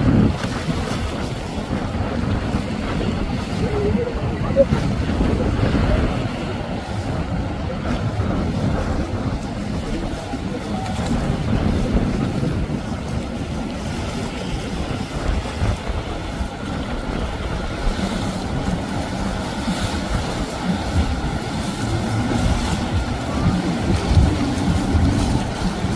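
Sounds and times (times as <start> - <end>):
low boat engine rumble: 0.0 - 25.9
rush of water from bow wake: 0.0 - 25.9.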